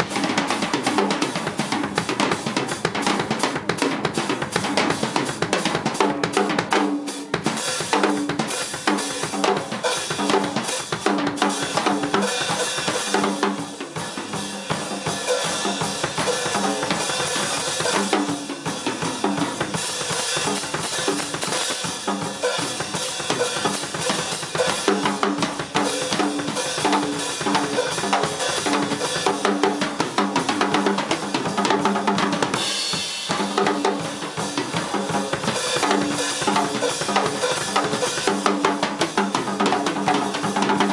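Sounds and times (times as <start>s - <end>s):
drum kit solo: 0.0s - 40.9s.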